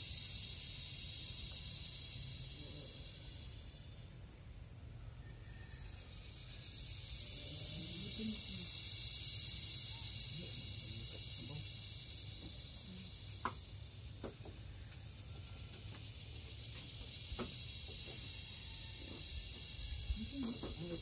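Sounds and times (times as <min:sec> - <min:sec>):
cicada buzzing: 0:00.0 - 0:21.0.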